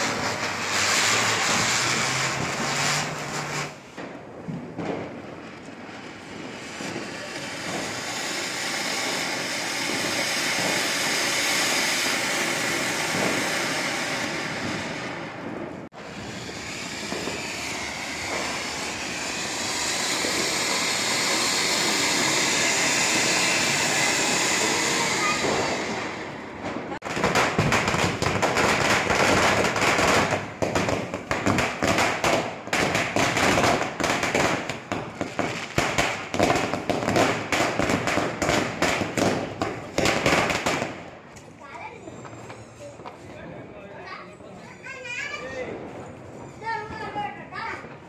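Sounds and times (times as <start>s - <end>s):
firework fountain hissing: 0.0s - 43.4s, 44.5s - 48.0s.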